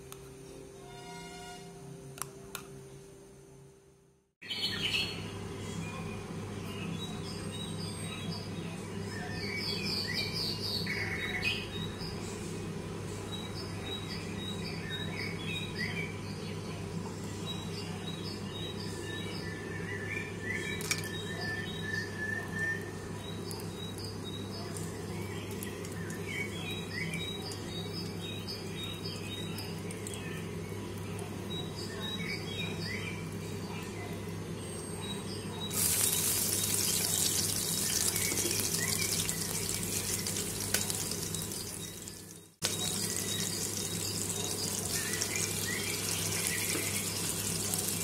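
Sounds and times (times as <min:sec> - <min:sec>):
small birds chirping: 0:04.4 - 0:48.0.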